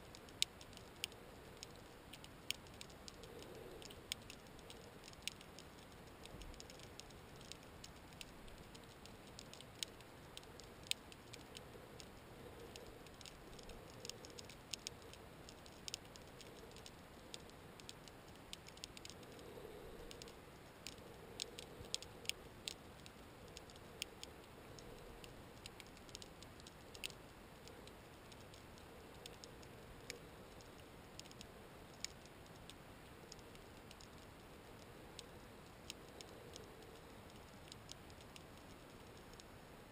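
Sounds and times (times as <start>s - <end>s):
underwater clicks and crackles: 0.0s - 39.6s.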